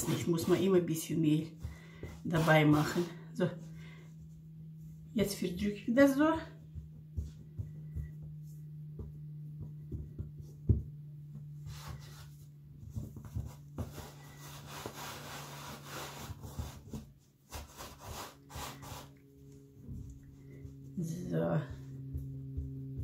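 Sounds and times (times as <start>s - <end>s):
hands patting and rubbing dough: 0.0s - 23.0s
steady low hum: 0.0s - 23.0s.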